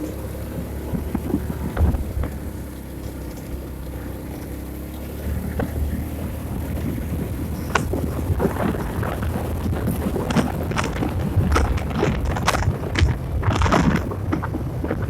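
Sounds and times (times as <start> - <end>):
vehicle road rumble: 0.0 - 15.0
wind buffeting microphone: 0.0 - 15.0.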